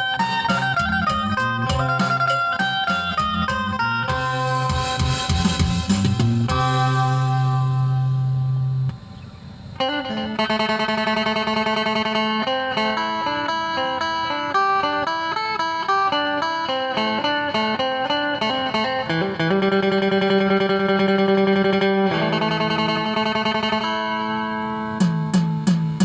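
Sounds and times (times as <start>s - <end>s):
electric lute playing a tune: 0.0s - 9.0s, 9.7s - 26.0s.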